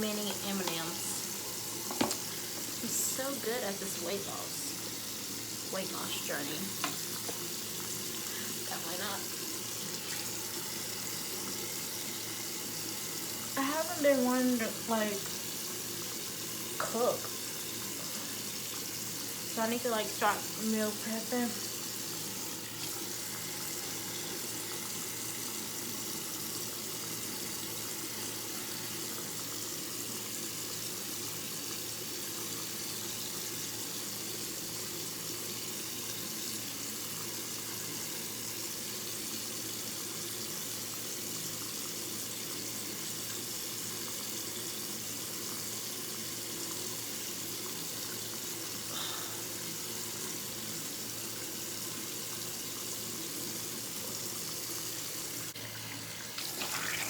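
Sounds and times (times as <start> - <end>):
running water from a tap: 0.0 - 57.0.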